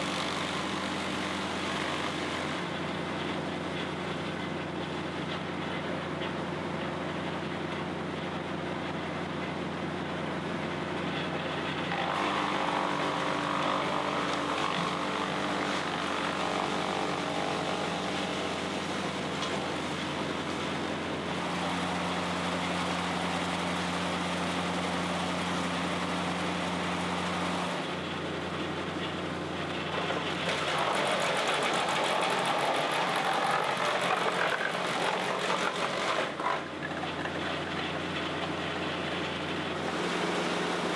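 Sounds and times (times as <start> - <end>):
brush chipper running: 0.0 - 40.9.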